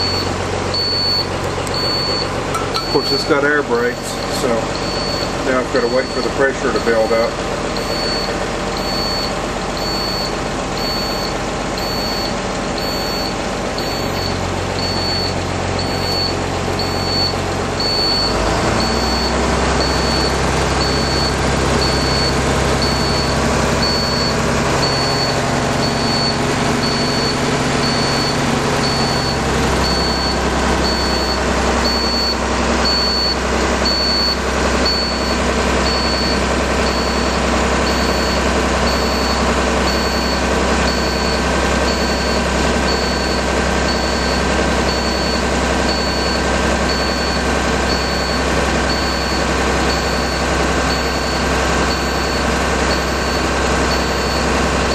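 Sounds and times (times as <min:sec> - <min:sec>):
warning buzzer beeping: 0:00.0 - 0:54.5
diesel engine idling: 0:00.0 - 0:54.9.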